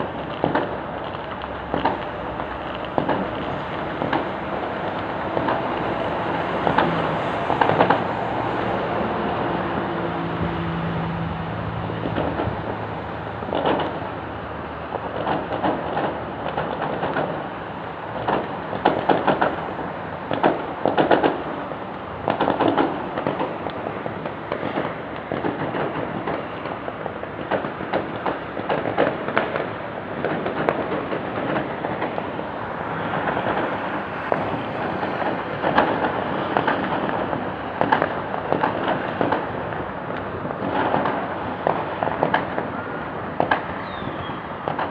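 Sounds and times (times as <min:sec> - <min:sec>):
fireworks bangs and crackle: 0:00.0 - 0:44.9.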